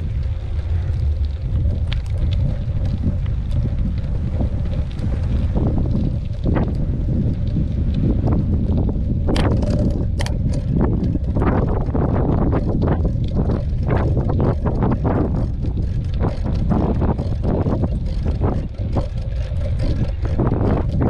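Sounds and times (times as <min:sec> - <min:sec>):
bike rattles and knocks: 0:00.0 - 0:21.0
wind buffeting microphone: 0:00.0 - 0:21.0.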